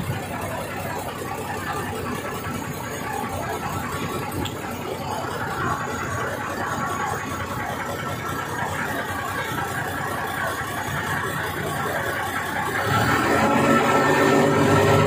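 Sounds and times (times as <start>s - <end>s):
ferry engine running: 0.0s - 15.0s.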